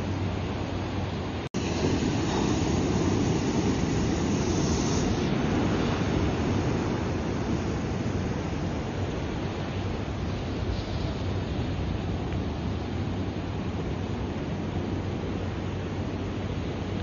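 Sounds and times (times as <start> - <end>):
ocean surf washing ashore: 1.2 - 16.4.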